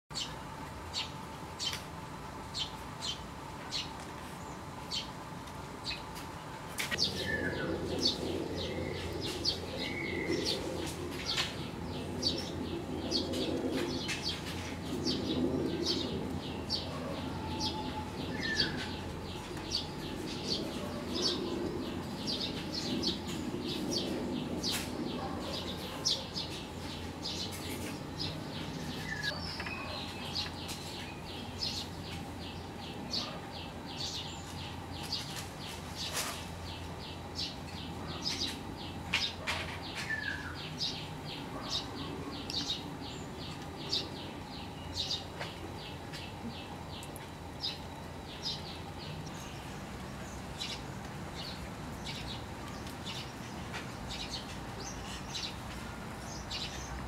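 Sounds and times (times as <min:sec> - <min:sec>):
small birds chirping: 0:00.1 - 0:05.2, 0:05.8 - 0:57.0.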